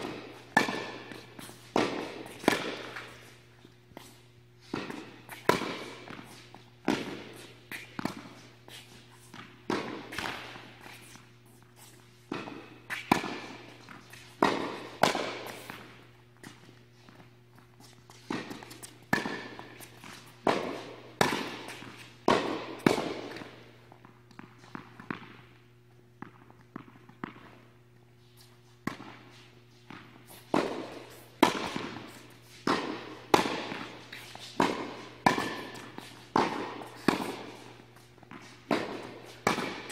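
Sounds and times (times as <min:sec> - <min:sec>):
tennis balls struck by rackets: 0:00.0 - 0:11.2, 0:12.2 - 0:17.2, 0:18.1 - 0:27.7, 0:28.8 - 0:29.2, 0:29.8 - 0:39.9
steady low hum: 0:00.0 - 0:39.9.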